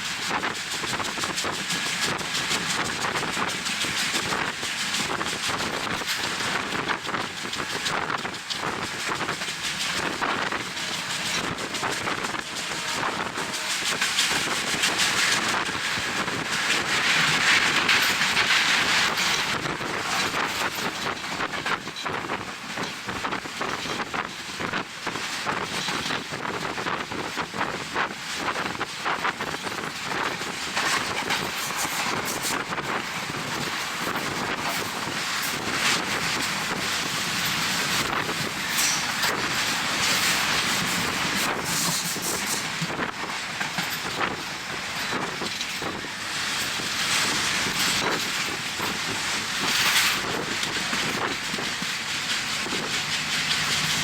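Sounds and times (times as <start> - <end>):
train running noise: 0.0 - 54.0
wind rushing over microphone: 0.0 - 54.0.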